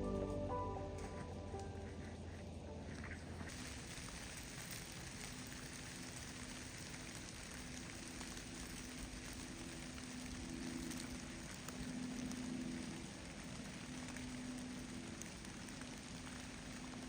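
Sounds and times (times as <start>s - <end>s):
faint low hum: 0.0s - 17.0s
wet snow falling: 0.0s - 17.0s.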